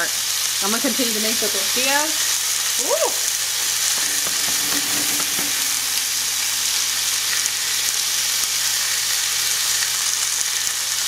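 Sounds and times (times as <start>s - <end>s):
steak sizzling in a skillet: 0.0s - 11.0s.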